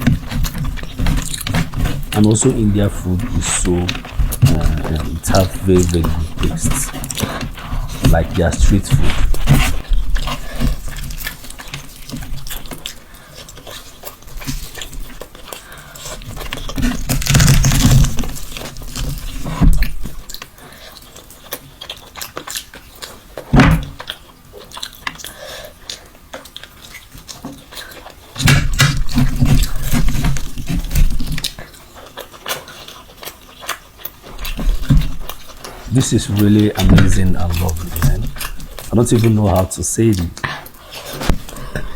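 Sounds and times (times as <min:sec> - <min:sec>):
person chewing wetly: 0:00.0 - 0:41.9.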